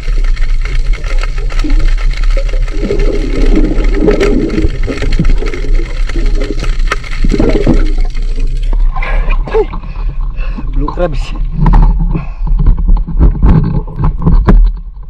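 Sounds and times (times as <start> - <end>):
water churning and sloshing: 0.0 - 15.0.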